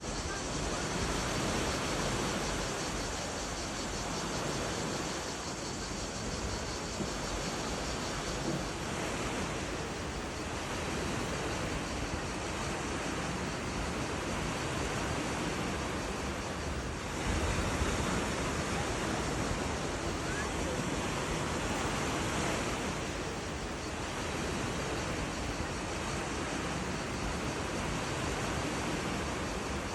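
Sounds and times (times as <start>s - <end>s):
cicadas droning: 0.0s - 29.9s
sea surf washing on shore: 0.0s - 29.9s.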